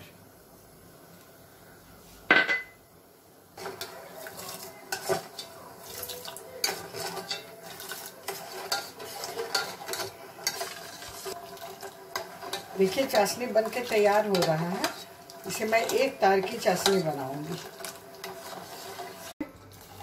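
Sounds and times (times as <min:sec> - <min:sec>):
metal spoon scraping a saucepan: 0:03.6 - 0:20.0.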